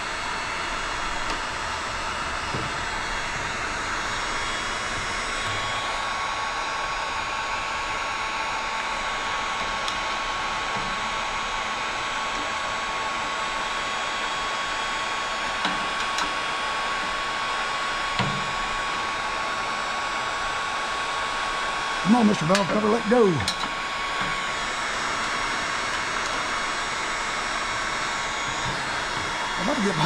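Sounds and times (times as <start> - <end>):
heat gun blowing and whining: 0.0 - 30.0.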